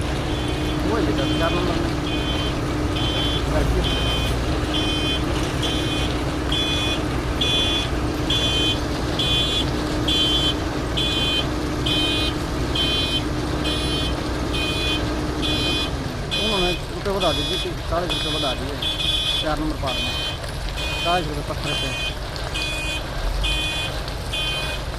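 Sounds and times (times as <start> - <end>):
diesel engine drone: 0.0 - 24.9
reversing alarm beeping: 0.0 - 24.9.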